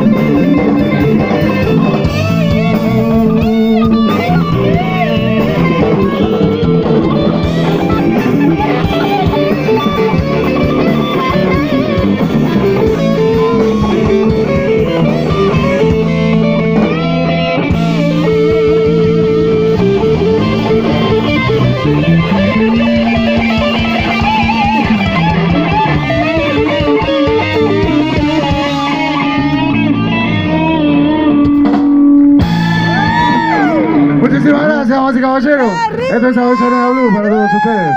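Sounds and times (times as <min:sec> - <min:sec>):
drum kit: 0:00.0 - 0:36.2
bass: 0:00.0 - 0:37.9
electric guitar bending notes: 0:00.0 - 0:37.9.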